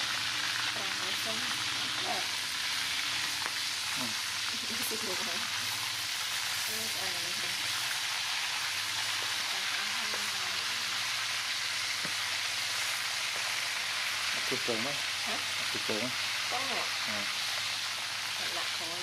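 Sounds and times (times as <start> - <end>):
frying in hot oil: 0.0 - 19.0.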